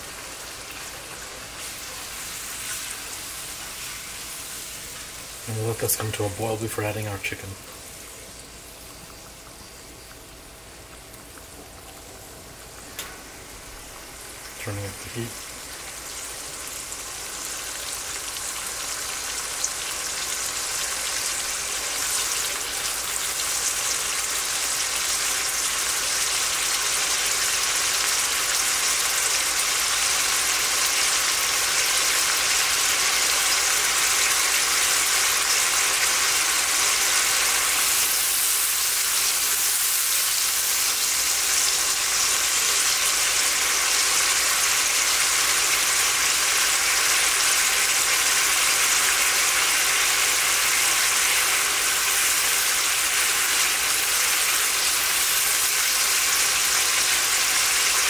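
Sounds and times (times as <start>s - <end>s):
sauce sizzling in a pot: 0.0s - 58.0s.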